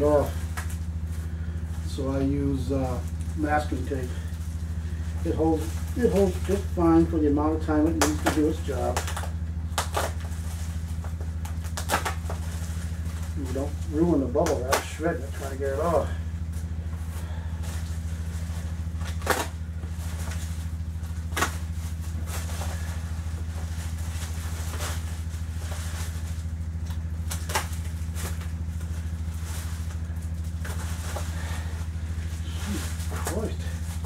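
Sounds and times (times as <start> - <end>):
bubble wrap crackling: 0.0 - 34.0
low machine hum: 0.0 - 34.0.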